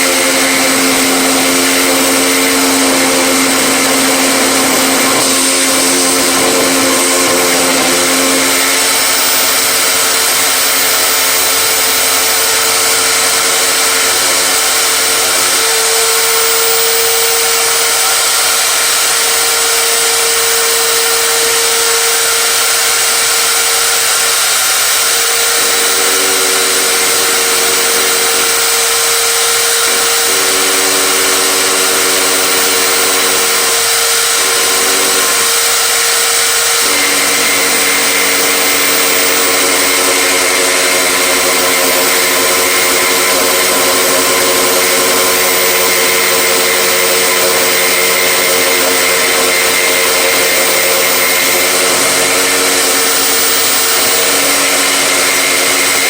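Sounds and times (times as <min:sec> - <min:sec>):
power tool running: 0:00.0 - 0:56.0.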